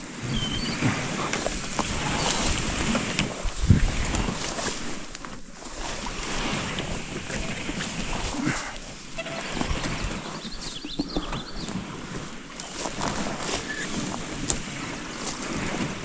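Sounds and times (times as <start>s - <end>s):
canoe scraping through brush: 0.0s - 16.0s.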